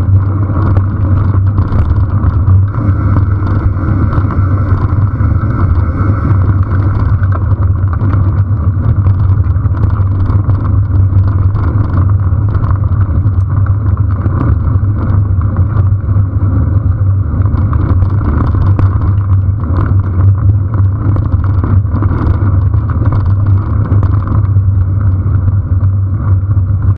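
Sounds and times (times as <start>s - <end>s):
bicycle tyres on gravel: 0.0s - 26.9s
small rattles and ticks: 0.0s - 26.9s
wind rumble on microphone: 0.0s - 26.9s.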